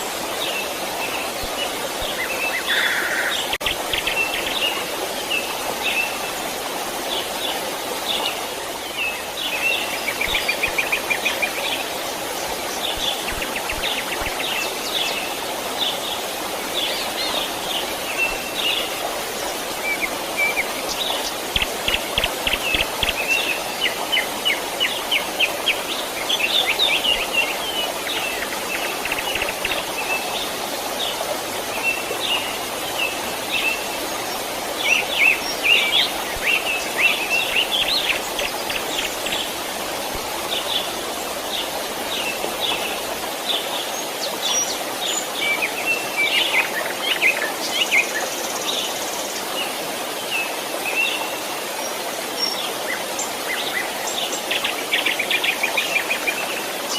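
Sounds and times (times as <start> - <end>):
stream rushing: 0.0 - 56.9.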